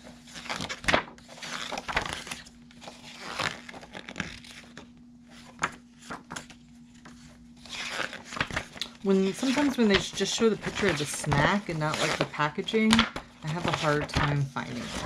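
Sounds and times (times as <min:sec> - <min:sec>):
paper pages rustling: 0:00.0 - 0:15.0.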